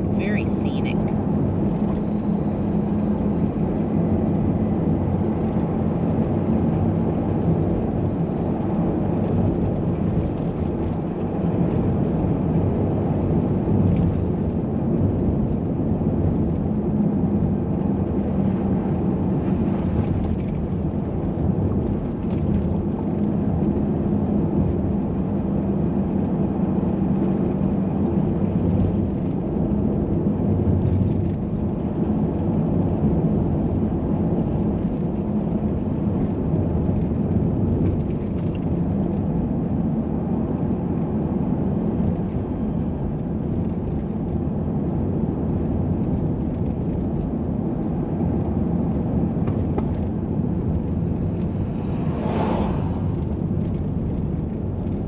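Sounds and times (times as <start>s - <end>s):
road and engine noise in car cabin: 0.0s - 55.0s.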